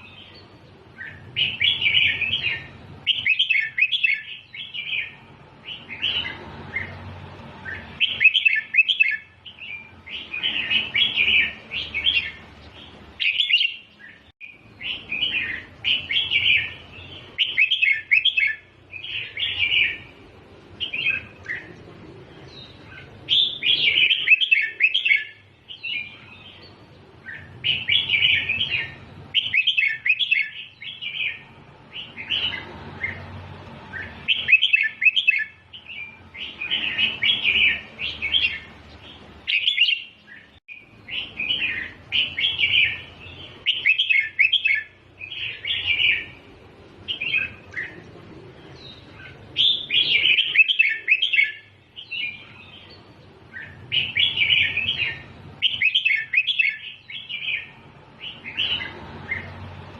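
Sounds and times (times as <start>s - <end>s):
bird singing warbling phrases: 0.0s - 59.9s.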